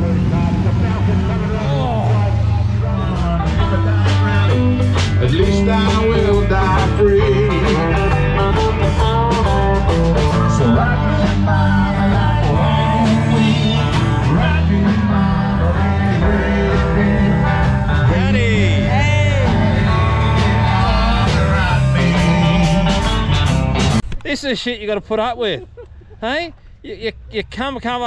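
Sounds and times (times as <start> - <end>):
bending melody line: 0.0 - 24.0
heavy bass line: 0.0 - 24.2.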